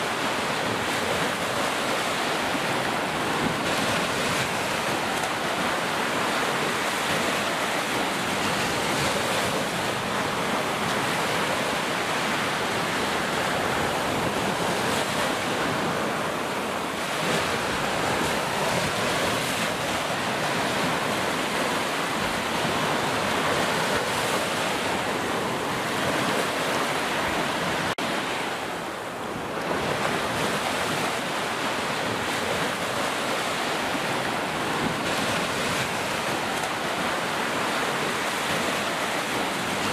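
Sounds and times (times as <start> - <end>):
ocean waves crashing: 0.0 - 39.9.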